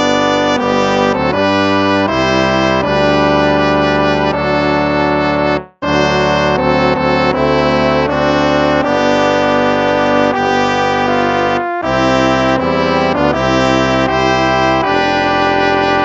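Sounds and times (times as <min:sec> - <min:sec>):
brass hymn chords: 0:00.0 - 0:16.0.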